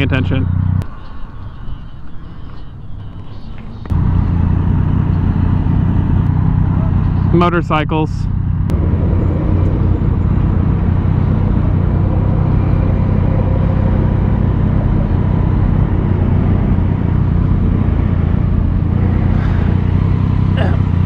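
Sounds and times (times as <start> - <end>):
motorcycle engine running steadily: 0.0 - 0.8, 3.8 - 21.0.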